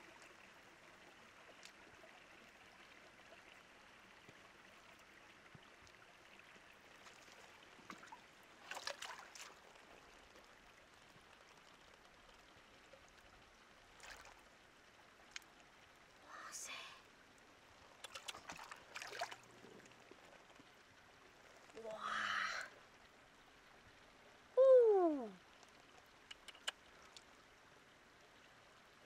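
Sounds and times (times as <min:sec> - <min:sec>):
stream water trickling: 0:00.0 - 0:29.0.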